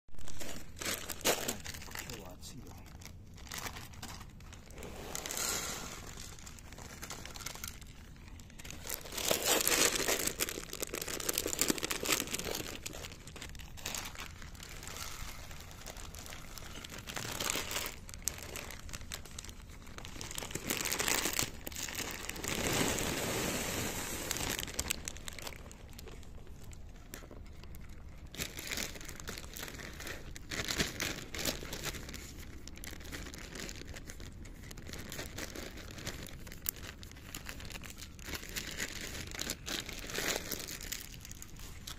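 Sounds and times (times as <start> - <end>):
cats crunching dry kibble: 0.2 - 41.9.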